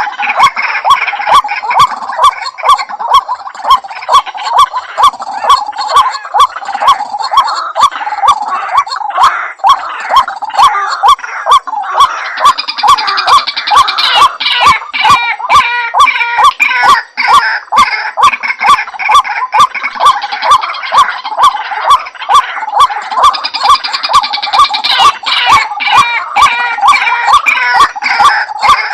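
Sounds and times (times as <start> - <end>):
chorus of higher bird calls: 0.0 - 28.9
waterhen calling: 0.0 - 28.9.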